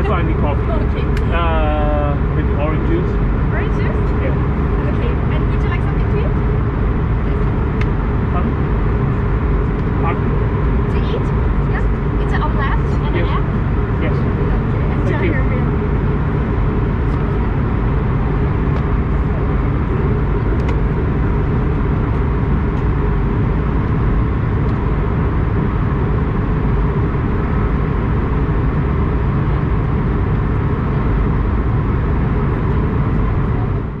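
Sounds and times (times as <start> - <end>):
airplane engine and airflow noise: 0.0 - 34.0.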